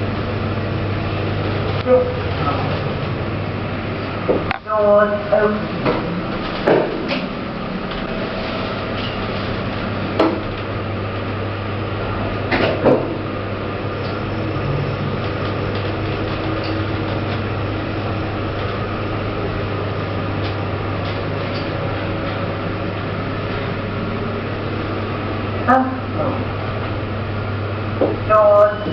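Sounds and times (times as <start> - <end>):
lift running hum: 0.0 - 28.9.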